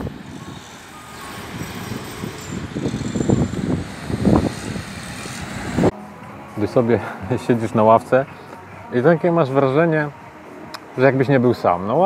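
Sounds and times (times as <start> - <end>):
cars driving and turning: 0.0 - 11.4.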